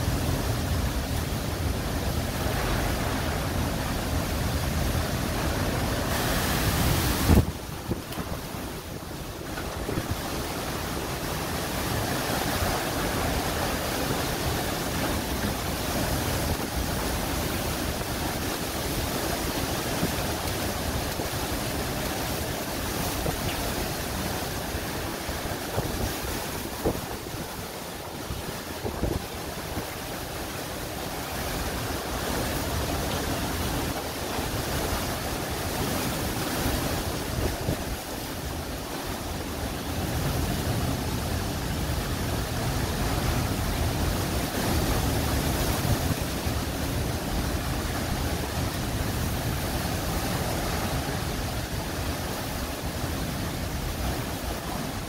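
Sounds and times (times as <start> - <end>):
rain lashing down: 0.0 - 55.0
wind tearing through trees: 0.0 - 55.0.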